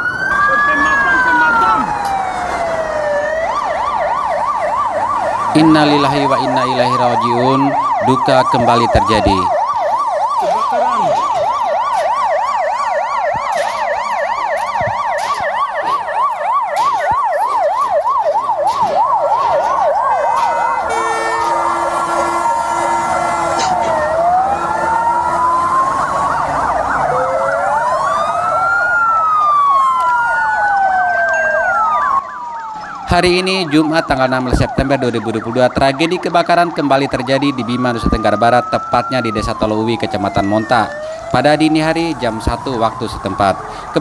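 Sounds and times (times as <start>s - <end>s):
siren wails: 0.0s - 44.0s
siren yelp: 0.0s - 44.0s.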